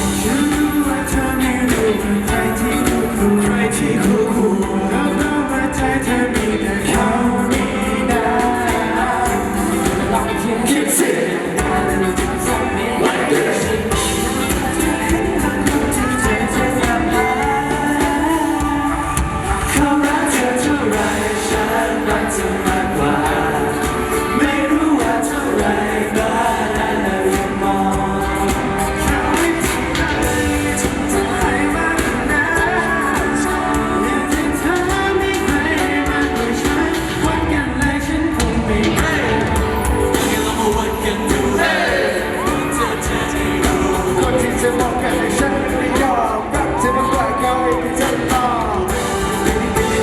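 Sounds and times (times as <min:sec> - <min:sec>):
live band music through pa: 0:00.0 - 0:50.0
person singing: 0:00.0 - 0:50.0.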